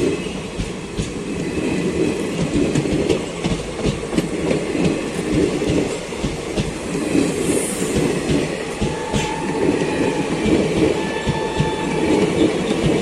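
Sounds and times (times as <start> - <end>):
steady rumble of train: 0.0 - 13.0.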